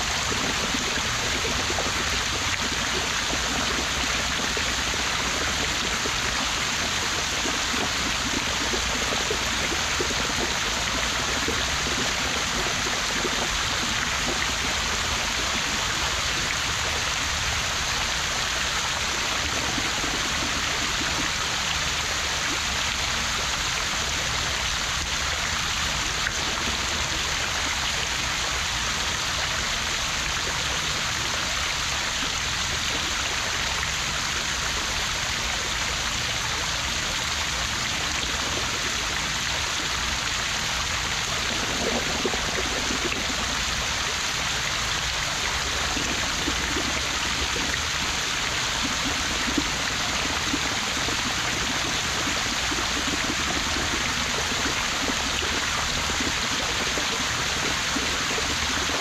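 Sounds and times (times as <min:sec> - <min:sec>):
fountain water splashing into basin: 0:00.0 - 0:59.0.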